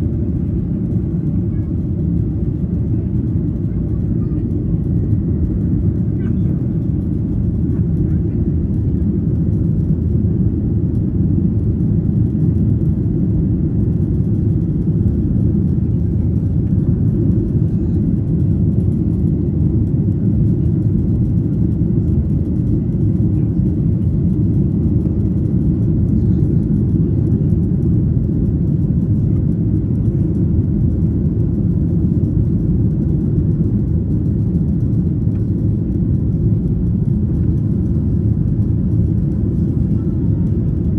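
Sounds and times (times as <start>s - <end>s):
airliner cabin rumble: 0.0s - 40.9s.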